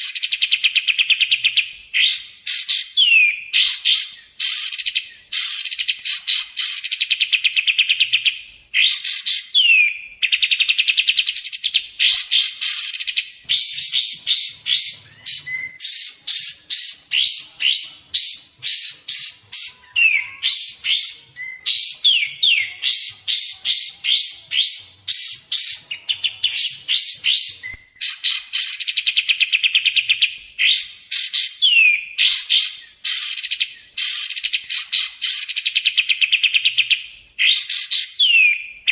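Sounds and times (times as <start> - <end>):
bird chattering trills: 0.0 - 38.9.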